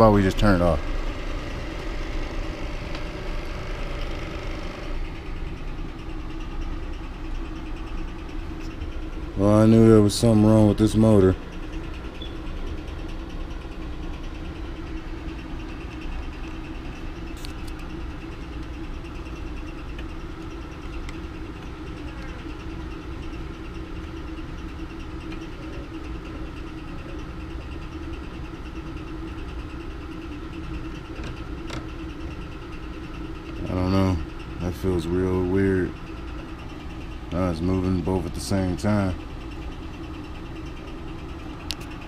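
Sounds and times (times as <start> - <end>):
machine hum: 0.0 - 42.0.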